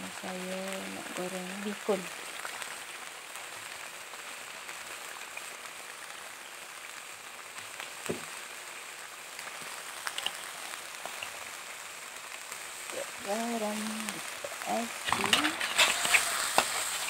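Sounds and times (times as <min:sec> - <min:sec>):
paste sizzling in hot oil: 0:00.0 - 0:17.0.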